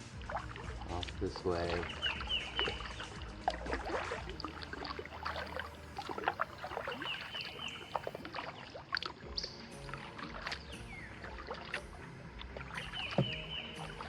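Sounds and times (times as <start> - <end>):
paddle dipping and dripping: 0.0 - 14.0
small knocks and splashes: 0.0 - 14.0
bird chirping: 1.2 - 9.8, 10.5 - 14.0.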